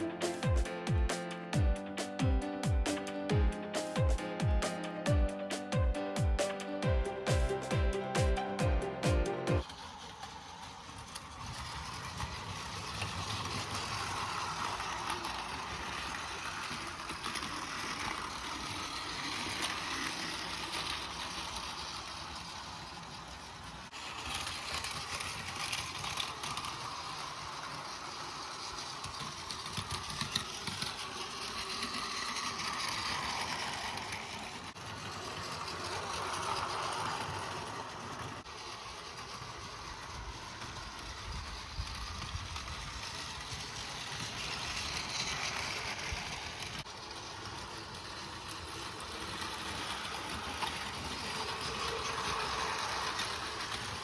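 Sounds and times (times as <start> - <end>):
toy train motor whir: 0.0 - 0.7, 9.6 - 54.0
wheels rattling over rail joints: 9.6 - 54.0.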